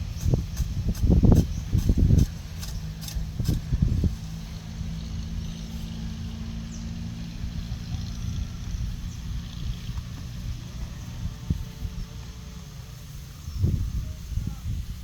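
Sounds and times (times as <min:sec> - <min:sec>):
low engine rumble: 0:00.0 - 0:15.0
wind noise: 0:00.0 - 0:15.0.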